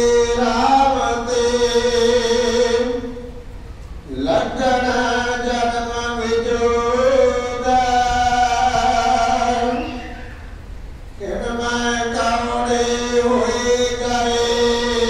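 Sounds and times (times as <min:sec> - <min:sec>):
man chanting melodically: 0:00.0 - 0:03.4, 0:04.1 - 0:10.5, 0:11.2 - 0:15.0.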